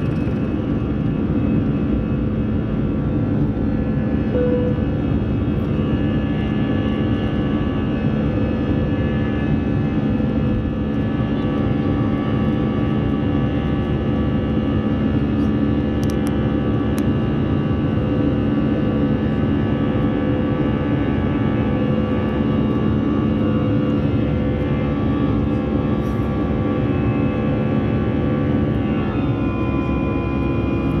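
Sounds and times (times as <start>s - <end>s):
jet engine drone in cabin: 0.0s - 31.0s.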